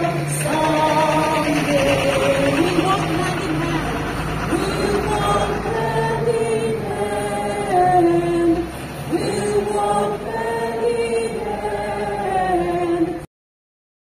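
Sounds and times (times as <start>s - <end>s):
crowd singing slow song: 0.0s - 13.3s.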